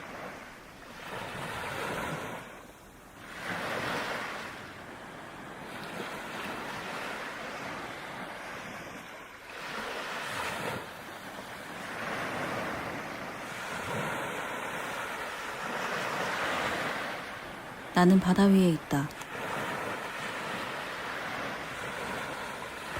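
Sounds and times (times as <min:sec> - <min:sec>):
sea waves breaking: 0:00.0 - 0:22.9.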